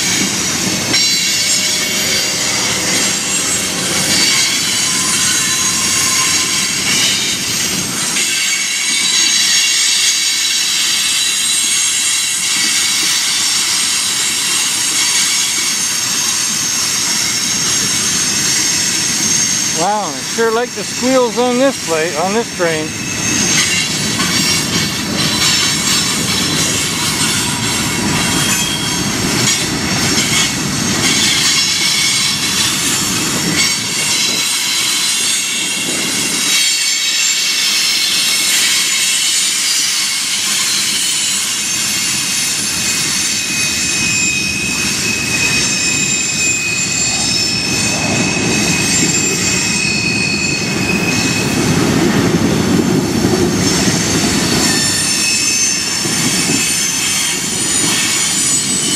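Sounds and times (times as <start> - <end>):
train brake and wheel squeals: 0.0 - 20.7, 22.8 - 52.4, 53.2 - 58.9
train wheels rumbling on rails: 0.0 - 58.9.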